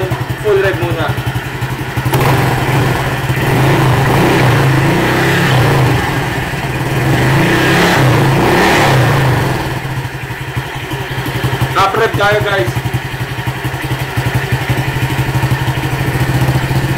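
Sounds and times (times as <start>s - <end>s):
scooter engine revving: 0.0s - 16.9s.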